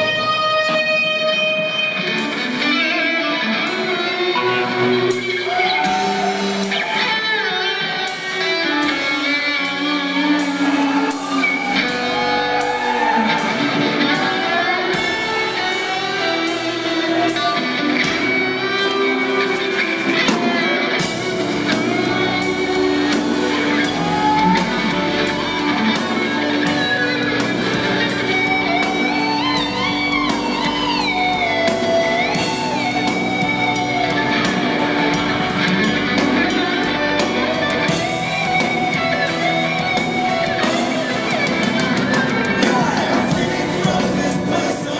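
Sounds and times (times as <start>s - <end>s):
electric guitar bending notes: 0.0s - 44.9s
live rock band playing: 0.0s - 44.9s.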